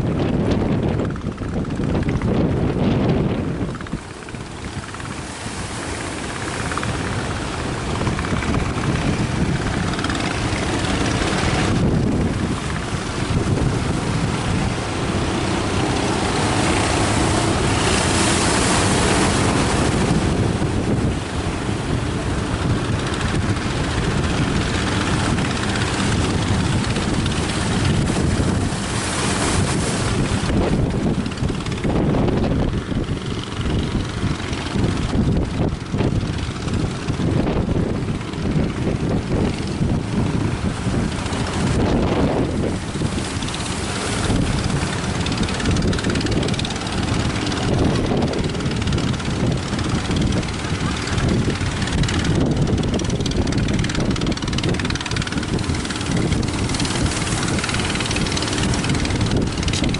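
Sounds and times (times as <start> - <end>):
surf rushing: 0.0 - 59.9
wind buffeting microphone: 0.0 - 59.9.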